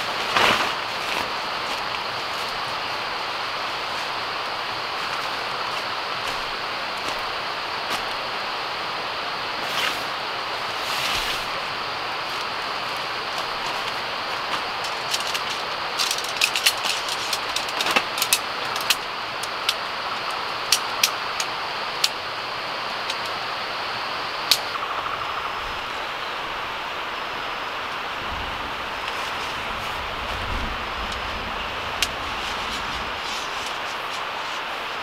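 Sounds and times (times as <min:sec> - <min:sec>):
tent poles clicking and rattling: 0:00.0 - 0:08.4, 0:09.5 - 0:23.5, 0:24.4 - 0:24.9, 0:28.9 - 0:35.0
steady rushing noise: 0:00.0 - 0:35.0.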